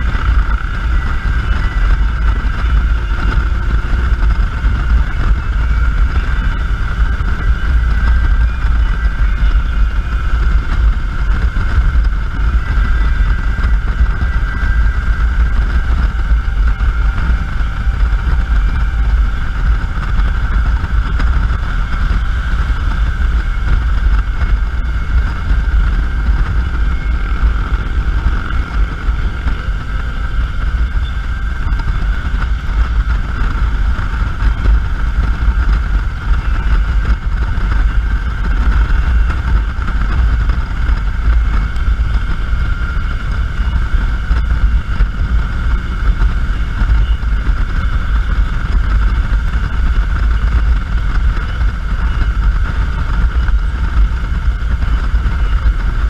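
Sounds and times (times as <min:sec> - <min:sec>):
motorcycle engine: 0:00.0 - 0:56.0
road noise: 0:00.0 - 0:56.0
wind buffeting microphone: 0:00.0 - 0:56.0.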